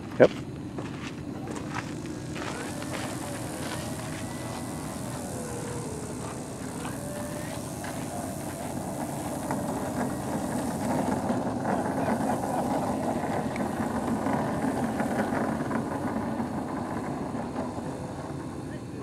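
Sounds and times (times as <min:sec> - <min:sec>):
electric motor spinning propeller: 0:00.7 - 0:19.0.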